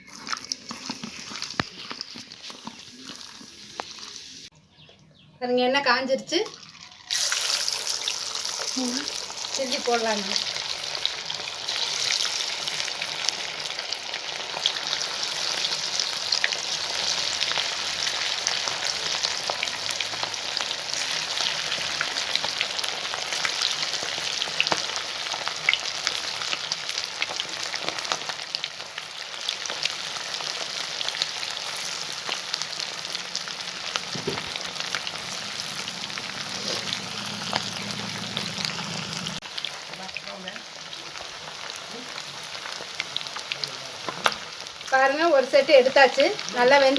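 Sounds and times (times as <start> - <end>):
chicken deep-frying in hot oil: 0.0 - 4.5, 6.2 - 46.9.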